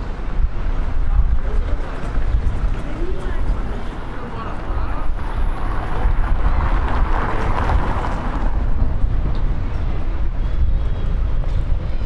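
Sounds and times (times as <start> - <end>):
city street ambience: 0.0 - 12.0.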